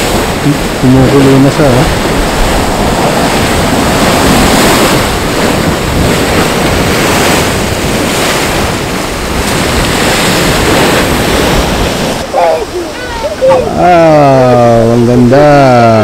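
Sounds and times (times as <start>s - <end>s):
geyser rush of steam and water: 0.0s - 16.0s.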